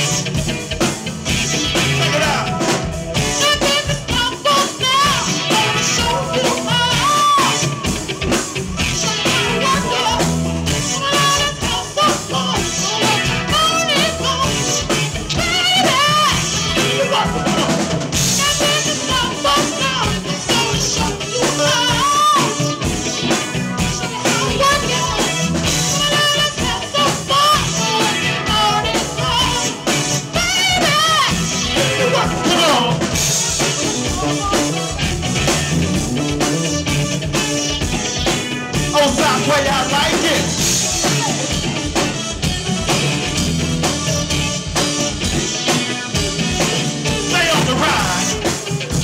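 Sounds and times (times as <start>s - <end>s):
drum kit: 0.0s - 49.0s
electric bass: 0.0s - 49.0s
man singing: 1.3s - 35.2s, 37.3s - 42.1s, 43.8s - 48.9s.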